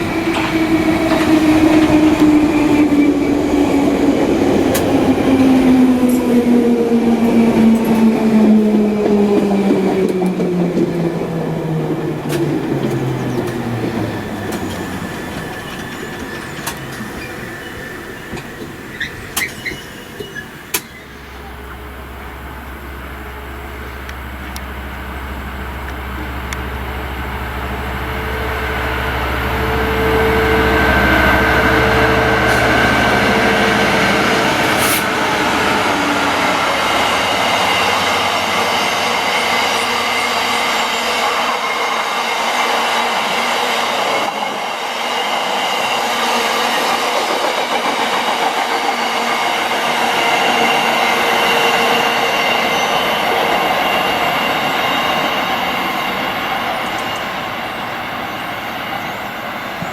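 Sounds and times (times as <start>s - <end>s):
deep train hum: 0.0s - 59.9s
train wheels rolling on rail: 0.0s - 59.9s.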